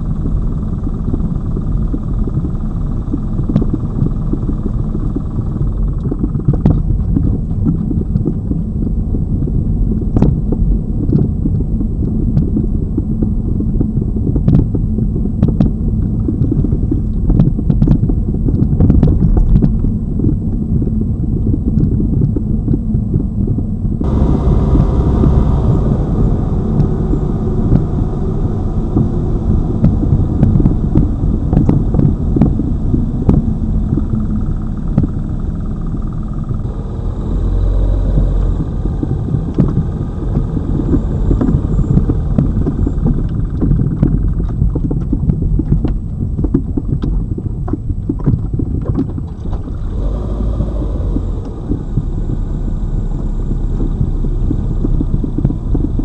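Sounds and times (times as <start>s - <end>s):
suspension rumble: 0.0s - 56.0s.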